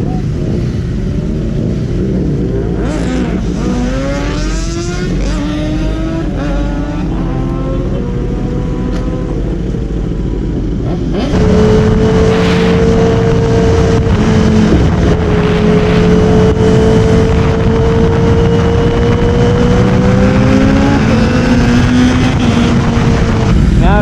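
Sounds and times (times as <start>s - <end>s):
high-revving engine: 0.0s - 24.0s
motorcycle engine accelerating: 0.0s - 24.0s.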